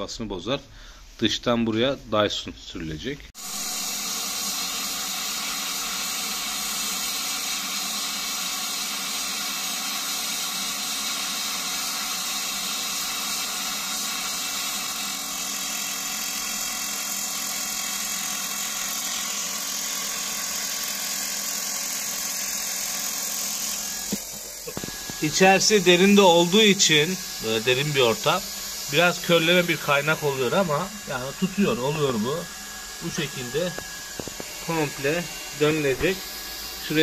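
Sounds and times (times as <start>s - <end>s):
welding arc hissing: 3.4s - 37.0s.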